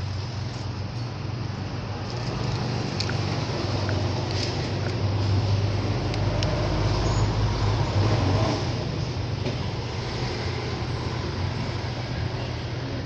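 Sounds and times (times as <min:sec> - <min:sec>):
mechanical droning hum: 0:00.0 - 0:13.0
noisy background: 0:00.0 - 0:13.0.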